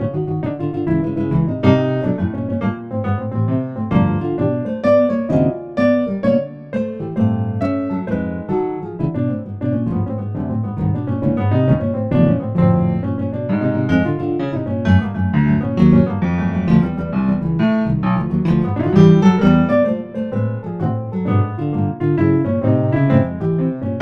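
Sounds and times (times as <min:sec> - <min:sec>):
piano music with bass line: 0:00.0 - 0:24.0.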